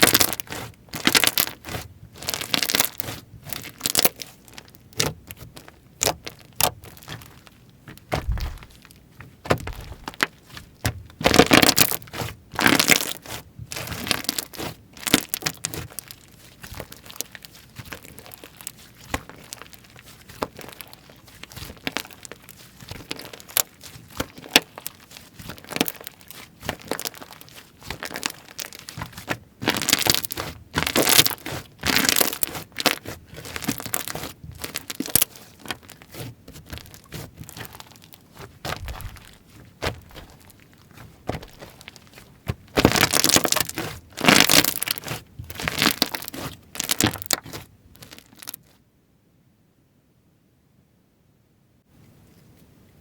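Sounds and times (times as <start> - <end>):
slime squished by hand crackling: 0.0 - 48.8.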